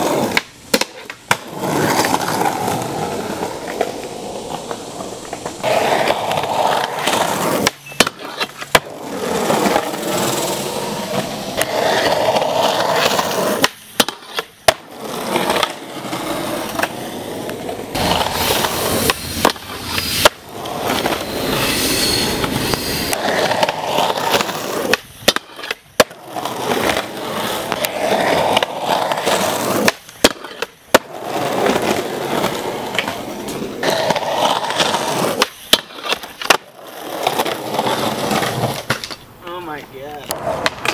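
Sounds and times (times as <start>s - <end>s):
skateboard clacks popping and landing: 0.0s - 21.2s, 23.2s - 39.3s, 40.2s - 40.9s
skateboard wheels rolling on concrete: 0.0s - 40.9s.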